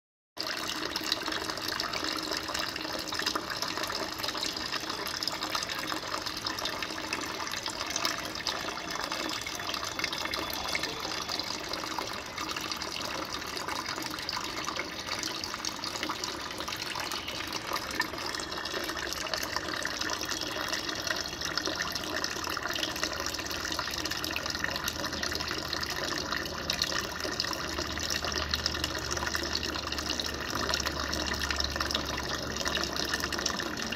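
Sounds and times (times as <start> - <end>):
water running: 0.4 - 33.9.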